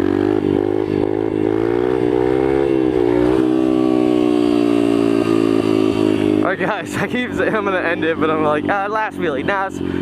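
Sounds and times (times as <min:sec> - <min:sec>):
motorbike engine running: 0:00.0 - 0:10.0.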